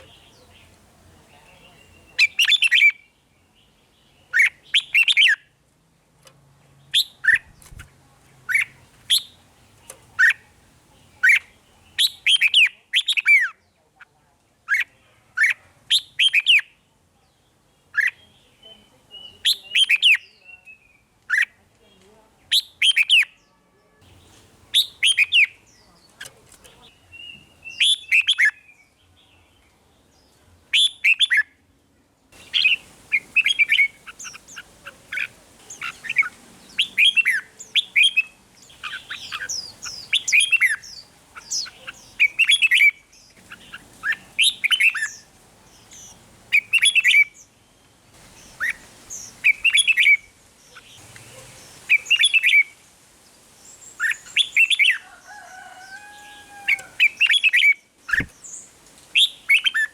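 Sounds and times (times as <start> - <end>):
bird singing chirping phrases: 0.0 - 5.6, 6.7 - 59.9.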